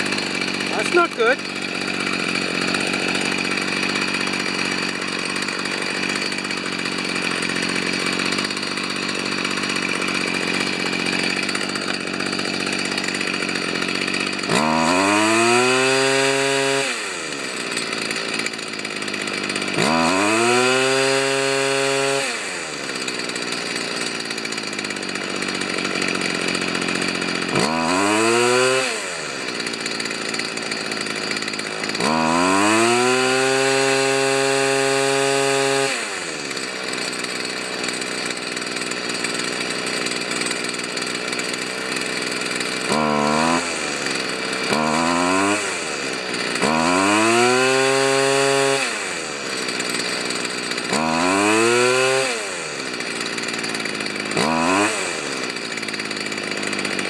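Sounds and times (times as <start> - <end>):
trimmer engine revving: 0.0 - 57.0.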